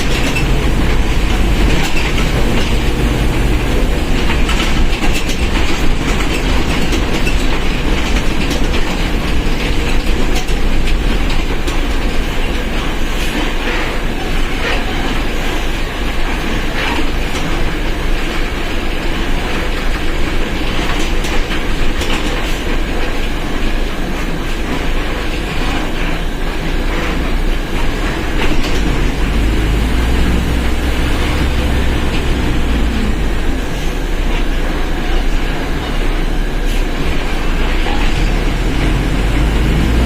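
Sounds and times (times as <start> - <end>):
bus diesel engine running: 0.0 - 40.0
rattle and road noise: 0.0 - 40.0.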